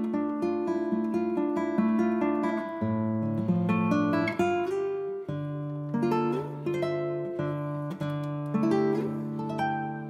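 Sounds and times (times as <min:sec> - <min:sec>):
acoustic guitar melody: 0:00.0 - 0:10.0.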